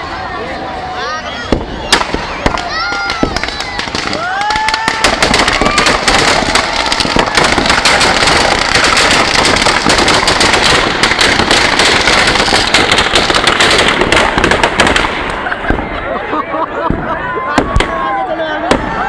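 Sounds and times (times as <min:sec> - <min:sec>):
firecrackers banging: 0:01.5 - 0:19.0.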